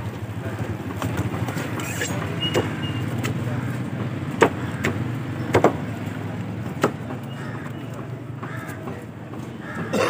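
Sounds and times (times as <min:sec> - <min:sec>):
street and market noise: 0:00.0 - 0:10.0.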